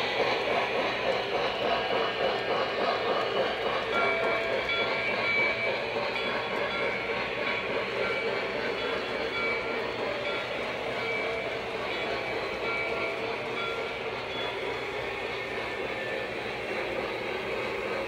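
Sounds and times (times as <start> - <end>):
model train rumbling: 0.0 - 18.0.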